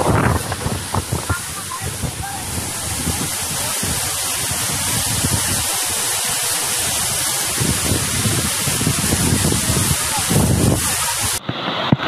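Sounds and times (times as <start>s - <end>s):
low rumble of river: 0.0s - 12.0s
river torrent rushing: 0.0s - 12.0s.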